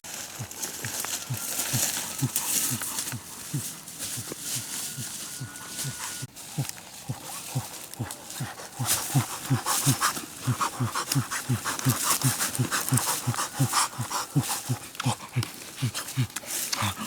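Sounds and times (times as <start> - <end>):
animal making low calls: 0.1 - 17.0
breathy hiss: 0.1 - 17.0.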